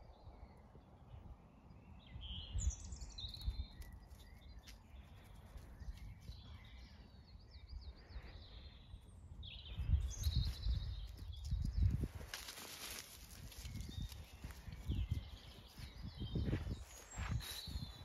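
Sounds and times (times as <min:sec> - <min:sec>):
birds singing: 0:00.0 - 0:18.0.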